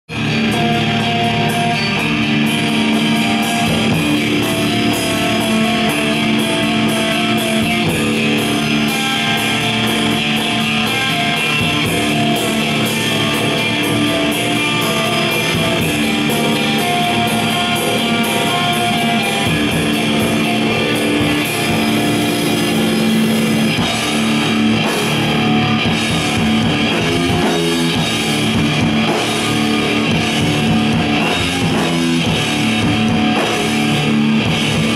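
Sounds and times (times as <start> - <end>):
rock band playing live: 0.1 - 34.9.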